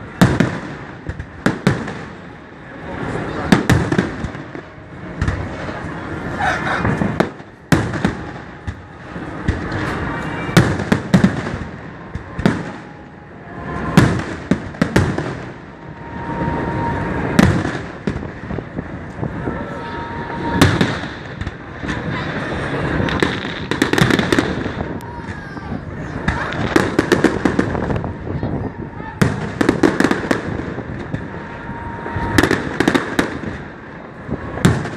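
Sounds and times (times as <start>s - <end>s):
fireworks bangs: 0.0s - 34.9s
fireworks crackling and rumble: 0.0s - 34.9s.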